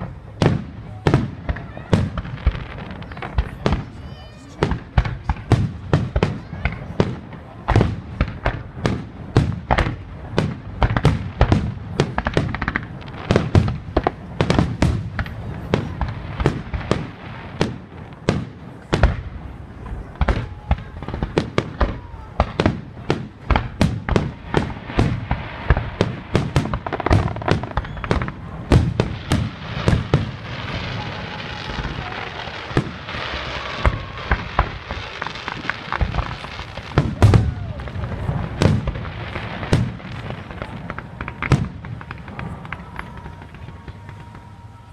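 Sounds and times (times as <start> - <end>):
fireworks banging: 0.0 - 44.9
fireworks crackling hiss: 0.0 - 44.9.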